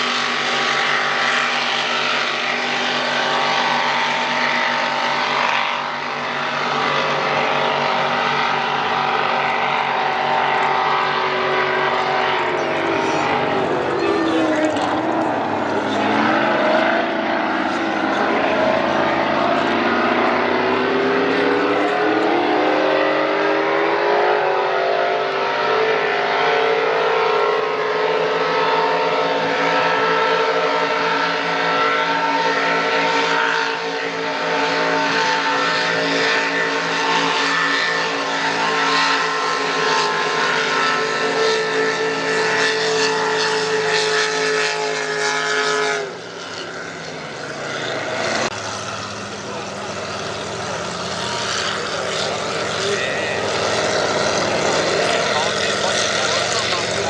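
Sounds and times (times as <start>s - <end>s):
boat engine at high revs: 0.0s - 57.0s.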